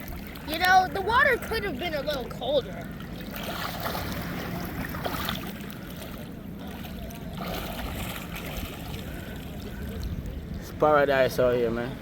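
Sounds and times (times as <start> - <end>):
seawater sloshing and lapping: 0.0 - 10.8.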